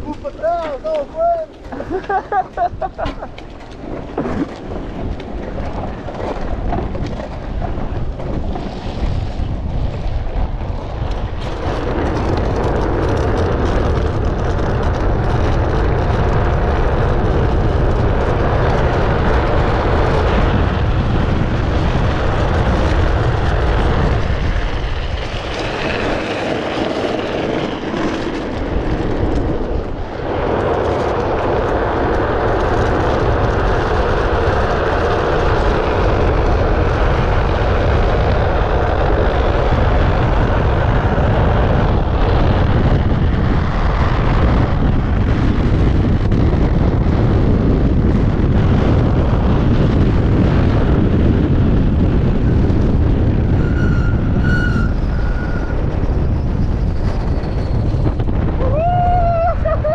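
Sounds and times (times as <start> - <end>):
tyre noise on asphalt: 0.0 - 59.9
wind rushing over microphone: 0.0 - 59.9.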